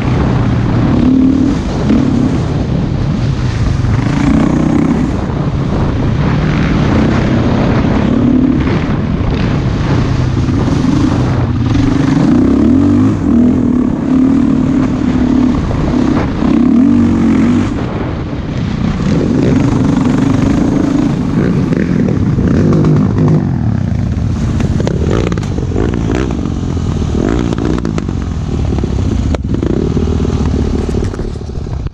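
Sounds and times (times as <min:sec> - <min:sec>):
dirt bike engine revving: 0:00.0 - 0:31.5.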